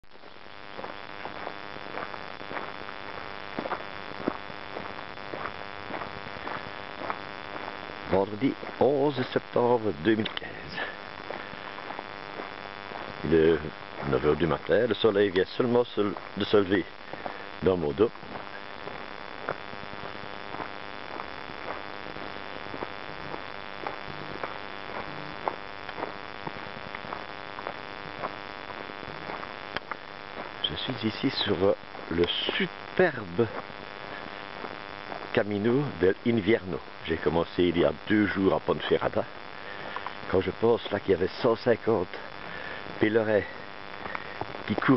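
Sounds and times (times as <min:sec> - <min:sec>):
insects chirring: 0:00.0 - 0:44.9
steady hiss: 0:00.0 - 0:44.9
footsteps on gravel: 0:00.1 - 0:44.9.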